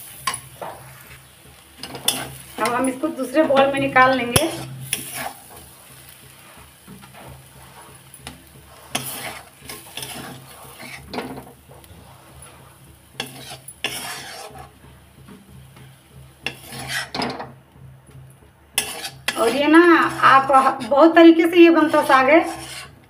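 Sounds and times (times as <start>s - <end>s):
spatula scraping metal pan: 0.0s - 17.6s, 18.7s - 23.0s
steady low hum: 0.0s - 23.0s.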